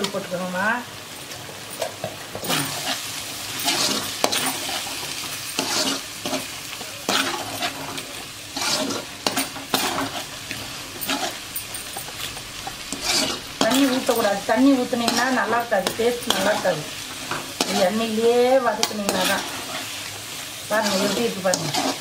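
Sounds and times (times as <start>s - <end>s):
food sizzling in hot oil: 0.0s - 22.0s
metal spatula scraping a pan: 2.4s - 22.0s.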